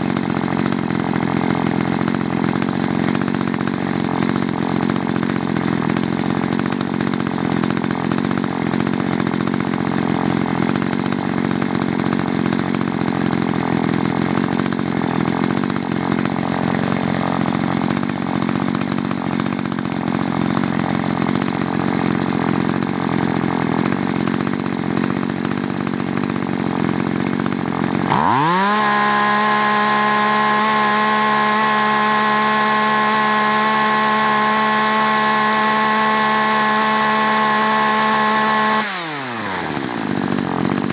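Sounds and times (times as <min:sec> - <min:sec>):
chainsaw engine idling and revving: 0:00.0 - 0:40.9.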